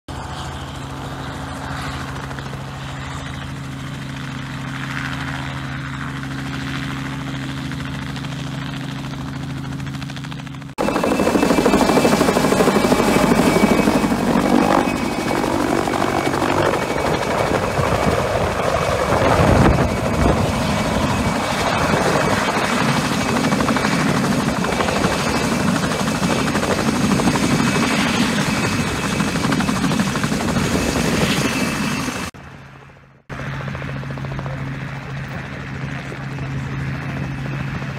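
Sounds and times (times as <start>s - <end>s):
helicopter rotor and turbine whine: 0.1s - 37.9s.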